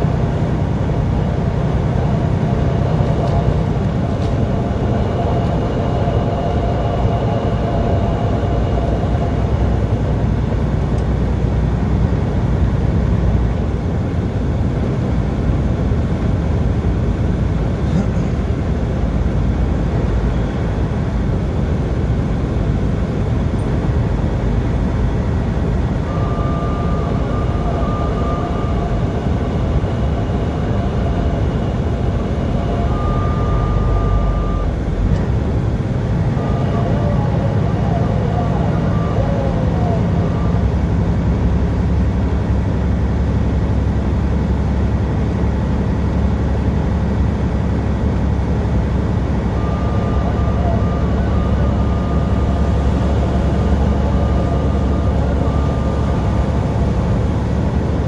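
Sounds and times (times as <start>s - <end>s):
faint steady whine: 0.0s - 58.0s
vehicle engine and road noise: 0.0s - 58.0s.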